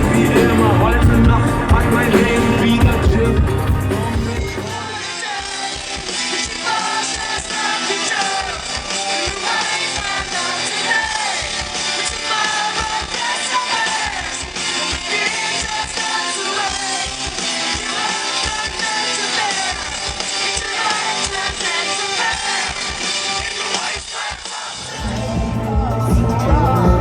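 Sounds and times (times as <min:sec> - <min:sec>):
steady drum beat: 0:00.0 - 0:21.7, 0:22.3 - 0:27.0
person singing: 0:00.0 - 0:24.1, 0:24.7 - 0:27.0
guitar: 0:00.0 - 0:27.0.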